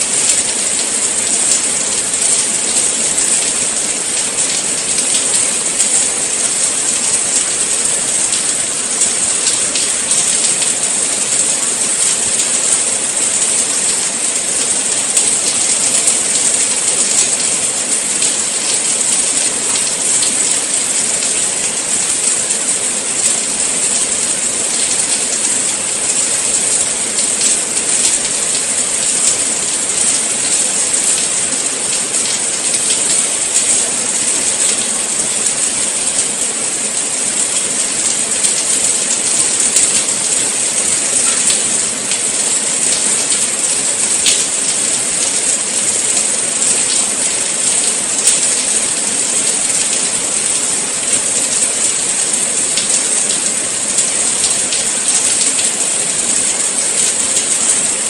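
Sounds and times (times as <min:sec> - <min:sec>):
steady rain falling: 0:00.0 - 0:58.0
raindrop ticks: 0:00.2 - 0:55.7.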